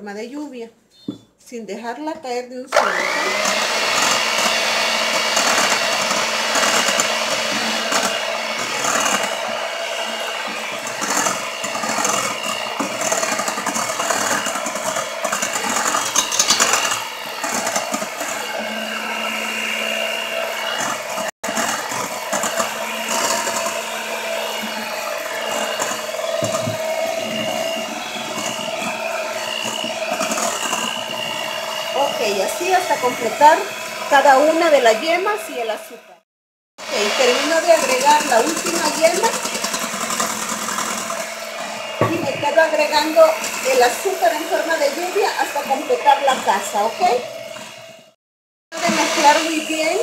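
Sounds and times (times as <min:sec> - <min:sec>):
electric hand mixer whisking: 0:02.7 - 0:36.2, 0:36.8 - 0:50.0.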